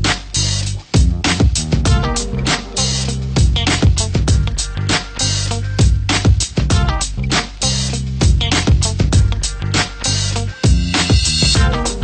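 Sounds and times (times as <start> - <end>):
drum beat: 0.0 - 12.0
held bass line: 0.0 - 12.0.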